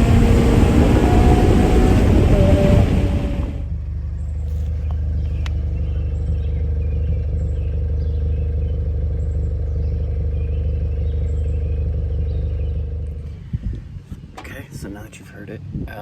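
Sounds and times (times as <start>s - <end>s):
car engine steady drone: 0.0s - 15.9s.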